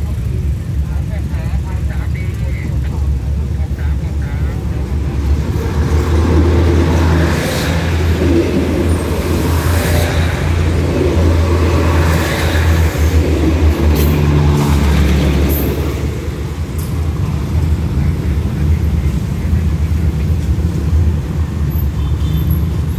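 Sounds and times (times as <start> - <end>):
train rumbling past: 2.8 - 22.0.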